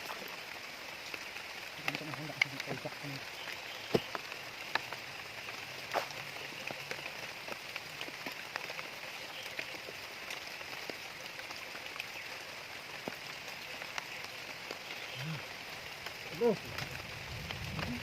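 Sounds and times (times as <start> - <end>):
raindrops ticking and splashing: 0.0 - 18.0
steady rain falling: 0.0 - 18.0.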